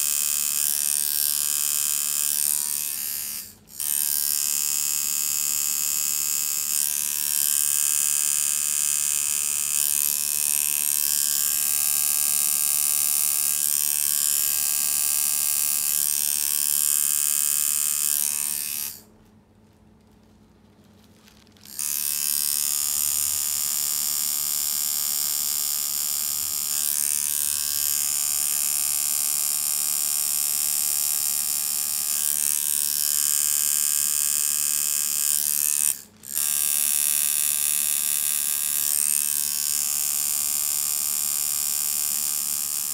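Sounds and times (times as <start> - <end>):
tattoo machine buzzing: 0.0 - 19.1, 21.6 - 42.9.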